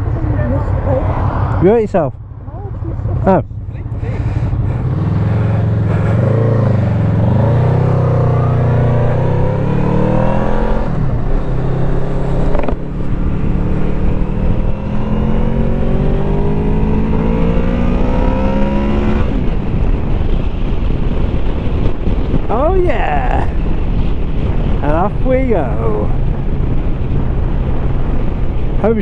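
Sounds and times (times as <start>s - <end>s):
motorcycle engine accelerating: 2.5s - 29.0s.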